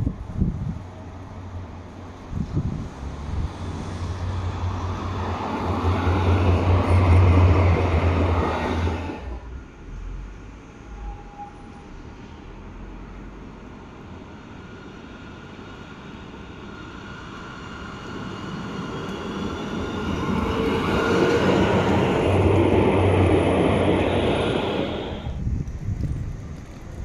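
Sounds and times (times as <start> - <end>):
tram running noise: 0.0 - 27.0
tram whine: 0.0 - 27.0.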